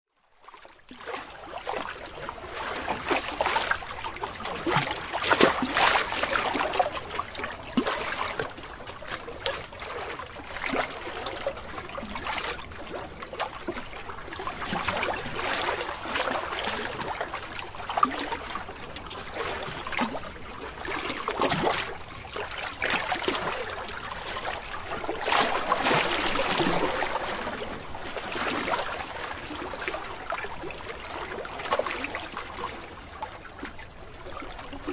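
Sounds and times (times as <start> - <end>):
water splashing and trickling: 0.4 - 34.9.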